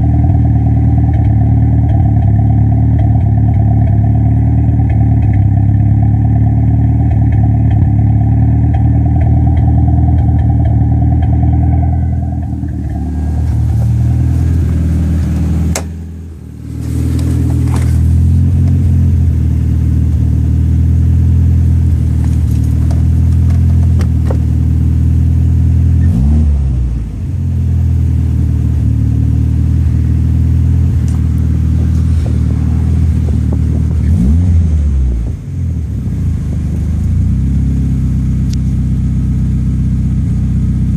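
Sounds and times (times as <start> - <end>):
engine running with misfire: 0.0 - 40.9.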